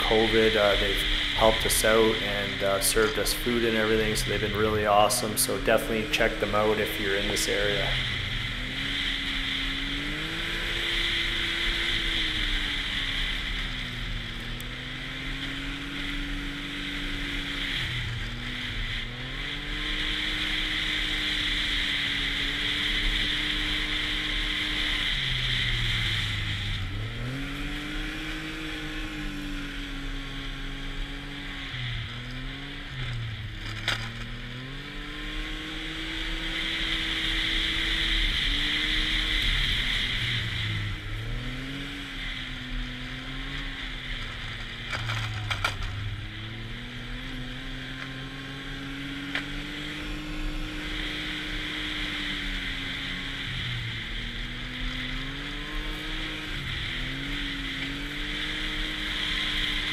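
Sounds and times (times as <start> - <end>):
snowmobile engine revving: 0.0 - 59.9
track and wind hiss: 0.0 - 59.9.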